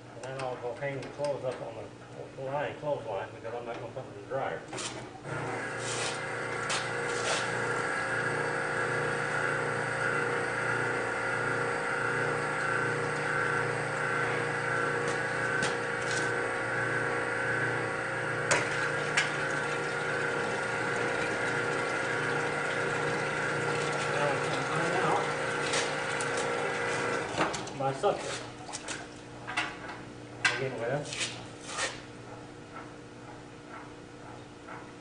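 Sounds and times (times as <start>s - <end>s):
washing machine motor and pump: 4.7s - 35.0s.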